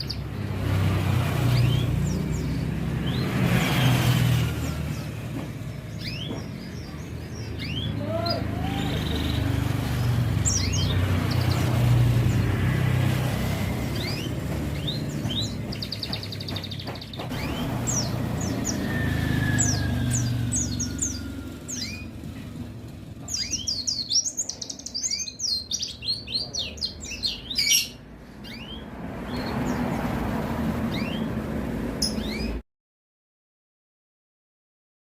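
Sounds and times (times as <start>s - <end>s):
bird chirping and twittering: 0.0s - 32.6s
low rumble of traffic: 0.0s - 32.6s.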